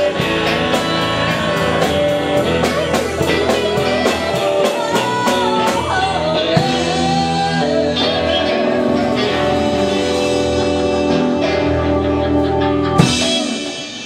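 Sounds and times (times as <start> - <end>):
blues band sustained chord: 0.0 - 14.0.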